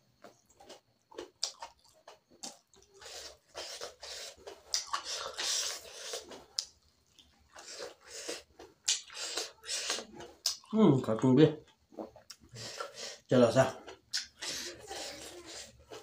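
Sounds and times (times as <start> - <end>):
person chewing with mouth smacks: 0.2 - 10.8, 11.6 - 13.0, 13.8 - 16.0.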